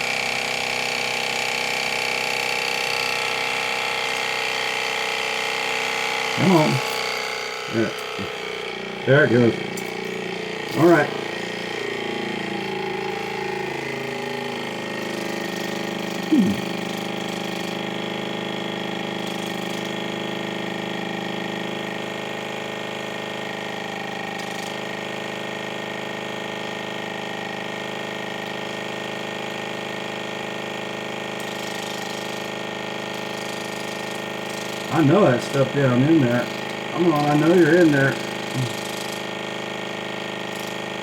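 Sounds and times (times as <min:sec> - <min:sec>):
pump motor buzzing: 0:00.0 - 0:41.0.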